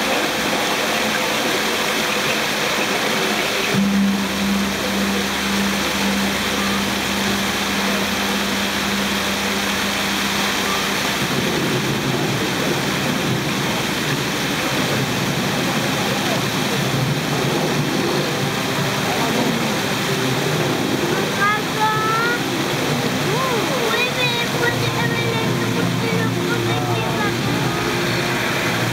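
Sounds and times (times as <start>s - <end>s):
fountain water splashing: 0.0s - 28.9s
low steady hum: 0.0s - 28.9s
rough low rumble: 3.4s - 28.9s.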